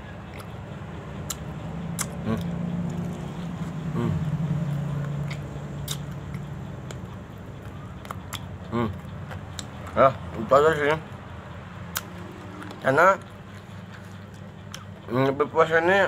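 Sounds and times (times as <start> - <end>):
steady low hum: 0.0 - 16.0
chewing with wet mouth clicks: 0.2 - 0.6, 1.2 - 10.4, 11.8 - 15.1.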